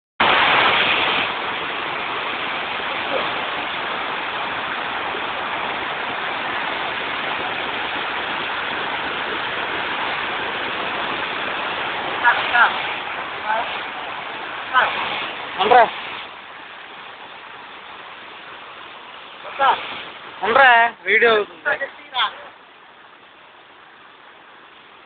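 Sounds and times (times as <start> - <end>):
waterfall rushing over rocks: 0.2 - 25.0.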